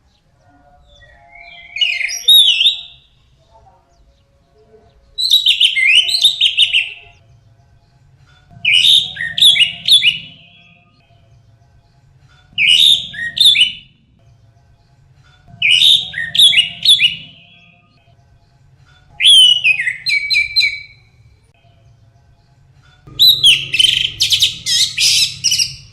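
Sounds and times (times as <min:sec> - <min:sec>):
thrush singing: 0:00.0 - 0:03.2, 0:04.1 - 0:25.9.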